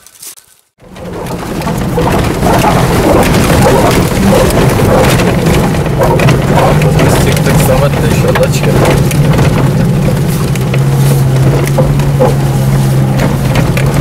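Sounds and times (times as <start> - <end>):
small knocks and rattles: 0.8 - 14.0
vehicle rumbling on stony track: 0.8 - 14.0.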